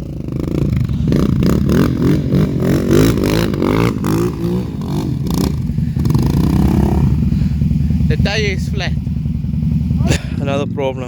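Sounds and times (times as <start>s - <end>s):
quad bike engines revving: 0.0s - 11.0s.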